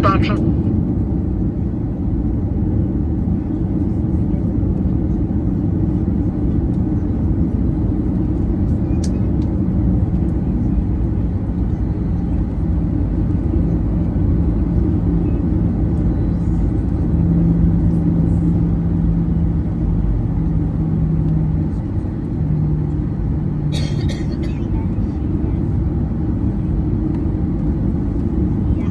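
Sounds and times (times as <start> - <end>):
jet engines low rumble: 0.0 - 28.9
steady cabin hum: 0.0 - 28.9
wheels rolling on taxiway: 0.4 - 28.9.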